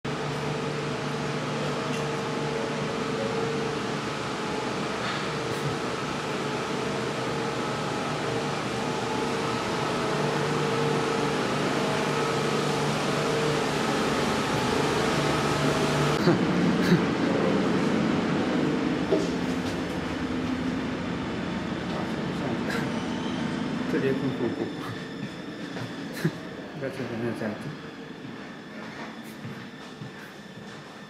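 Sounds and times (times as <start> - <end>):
electric train humming: 0.0 - 31.0.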